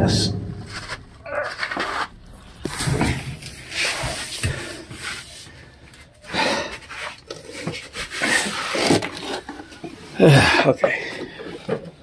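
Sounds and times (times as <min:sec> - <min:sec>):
rubbing and scraping handling noises: 0:00.0 - 0:12.0.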